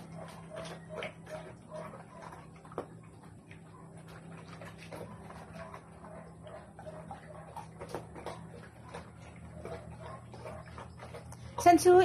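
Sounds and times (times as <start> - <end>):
dogs crunching dry kibble: 0.0 - 12.0
kibble clicking on metal bowls: 0.0 - 12.0
steady low hum: 0.0 - 12.0.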